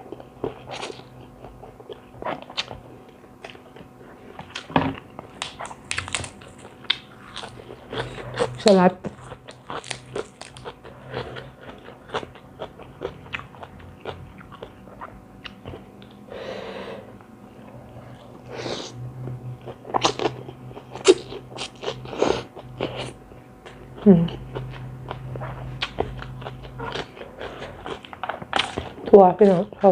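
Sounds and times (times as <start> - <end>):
person chewing crunchy food: 0.0 - 16.3, 17.1 - 29.9.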